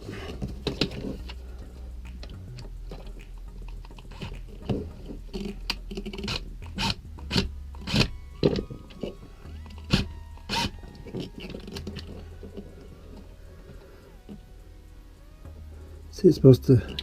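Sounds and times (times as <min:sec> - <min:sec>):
small parts clicking and scraping: 0:00.0 - 0:14.6
low steady hum: 0:00.0 - 0:17.0.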